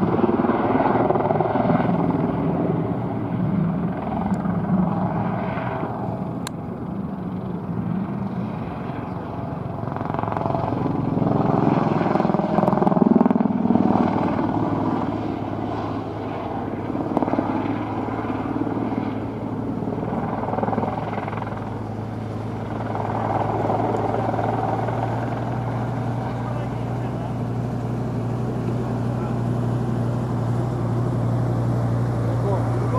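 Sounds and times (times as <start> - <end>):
helicopter rotor thrum: 0.0 - 32.9.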